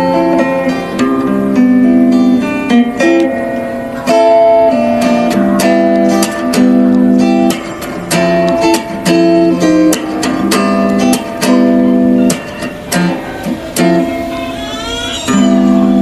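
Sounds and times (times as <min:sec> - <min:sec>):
strummed guitar chords: 0:00.0 - 0:16.0.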